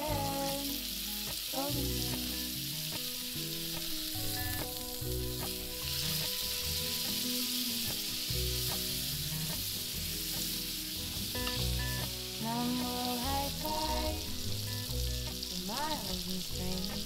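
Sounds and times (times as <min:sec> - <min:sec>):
background music: 0:00.0 - 0:17.0
fish sizzling in oil: 0:00.0 - 0:17.0.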